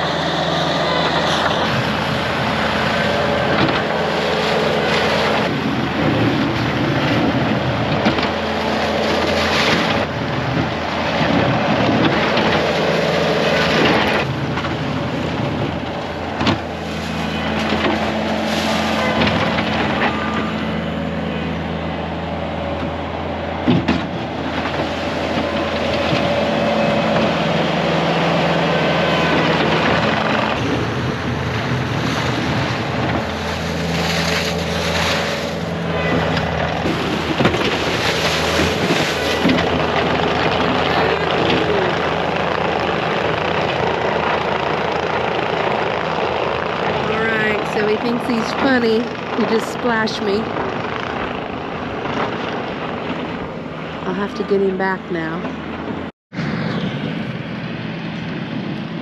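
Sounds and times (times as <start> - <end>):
loader engine running: 0.0 - 59.0
wind on microphone: 0.0 - 59.0.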